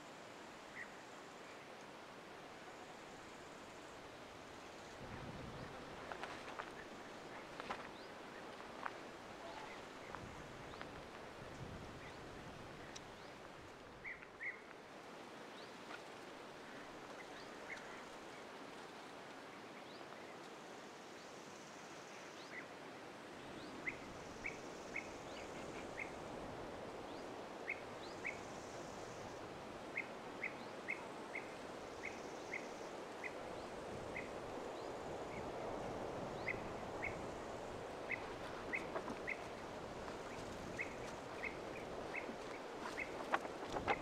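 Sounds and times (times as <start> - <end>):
steady outdoor hiss: 0.0 - 44.0.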